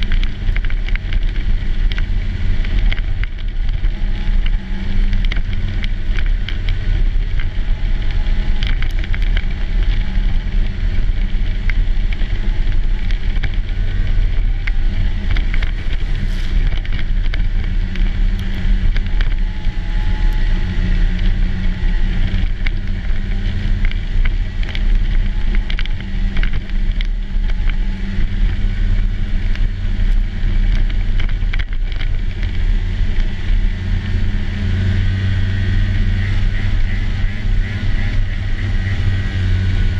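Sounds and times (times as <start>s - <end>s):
small clicks: 0.0s - 33.8s
snowmobile engine droning: 0.0s - 39.9s
wind: 0.0s - 39.9s.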